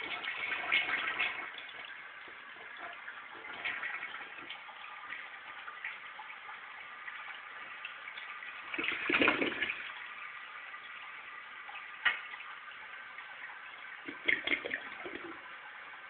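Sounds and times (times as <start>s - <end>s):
toilet flushing: 0.0s - 16.0s.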